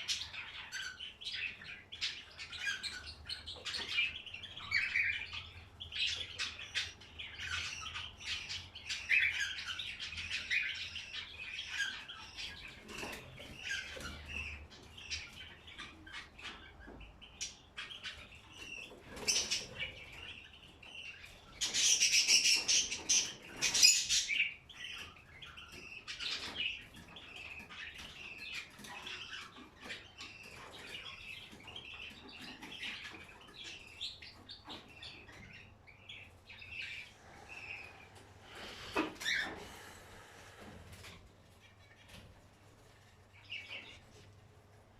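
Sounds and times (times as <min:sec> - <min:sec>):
small birds chirping and calling: 0:00.0 - 0:44.9.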